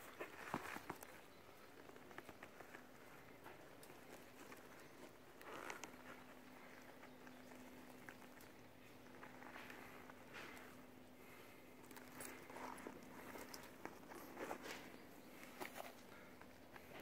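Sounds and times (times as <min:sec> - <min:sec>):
bag rustling and clicking: 0:00.0 - 0:17.0
faint steady hum: 0:00.0 - 0:17.0.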